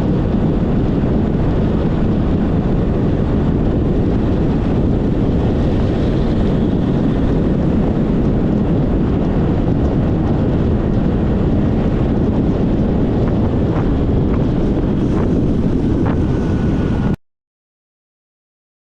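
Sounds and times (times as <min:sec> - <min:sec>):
road and engine noise: 0:00.0 - 0:17.2
wind rumble on microphone: 0:00.0 - 0:17.2.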